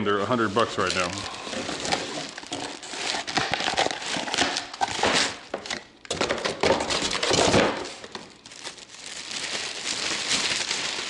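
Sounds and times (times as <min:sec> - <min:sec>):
packing material rustling: 0:00.2 - 0:11.0.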